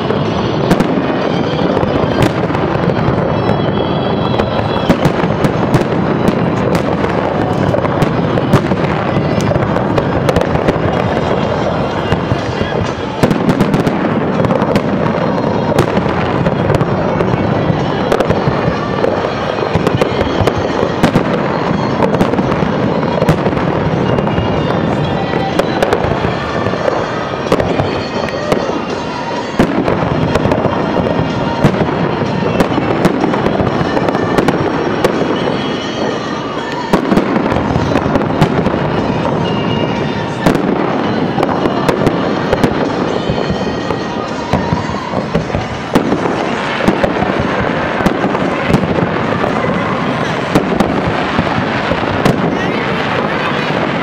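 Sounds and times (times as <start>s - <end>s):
firework shells bursting: 0.0s - 54.0s.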